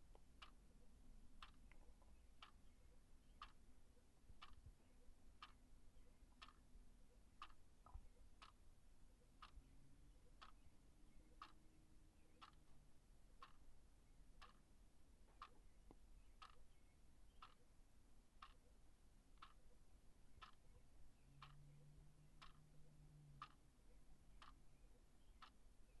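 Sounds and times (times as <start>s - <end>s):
wall clock ticking: 0.0s - 17.8s, 18.4s - 18.8s, 19.4s - 26.0s.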